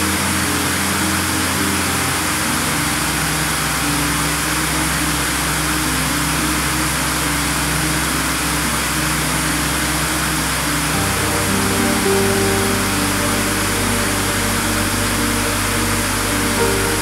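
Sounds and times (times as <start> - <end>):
low synth notes: 0.0 - 17.0
steady rushing hiss: 0.0 - 17.0.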